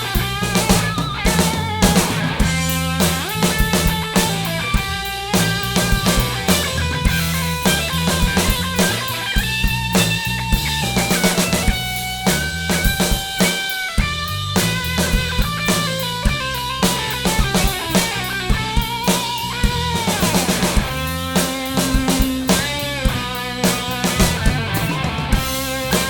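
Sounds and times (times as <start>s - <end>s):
driving drum kit: 0.0s - 26.0s
guitar melody of held notes: 0.0s - 26.0s
rock band playing: 0.0s - 26.0s.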